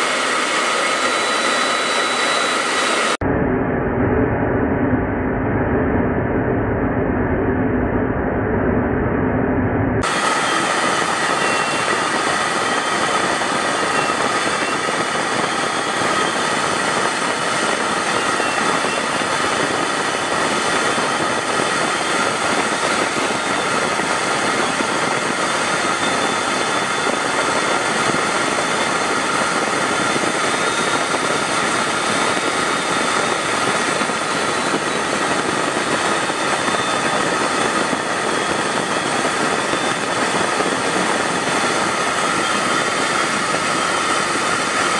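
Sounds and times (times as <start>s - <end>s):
high whining tones: 0.0s - 44.9s
jet engine and air rush: 0.0s - 44.9s.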